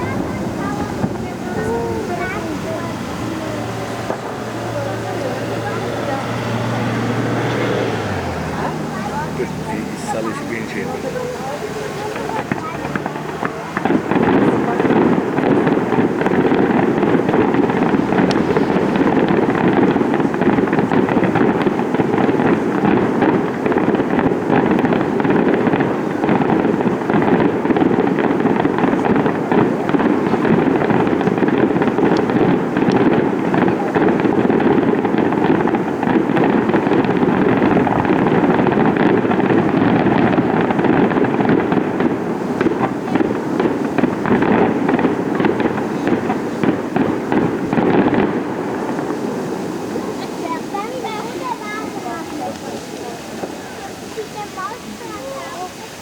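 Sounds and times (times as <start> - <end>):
fireworks shell bursts and crackling: 8.0 - 54.8.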